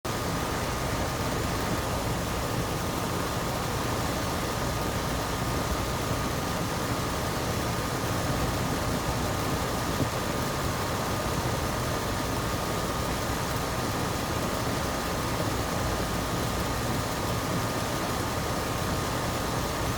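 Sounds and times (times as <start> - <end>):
air conditioner running: 0.1 - 19.9.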